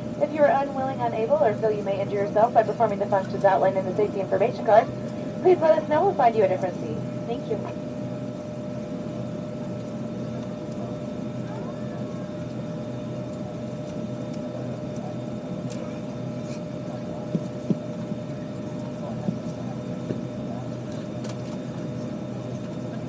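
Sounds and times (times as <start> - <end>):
aircraft cabin air-conditioning hum: 0.0 - 23.0.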